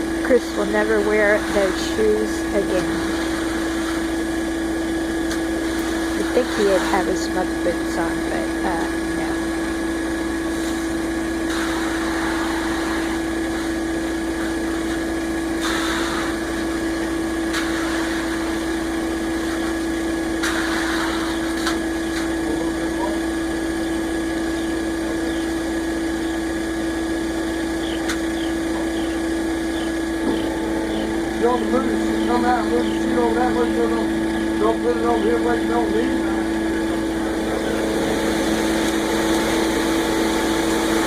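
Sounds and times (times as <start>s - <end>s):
truck engine humming: 0.0s - 41.0s.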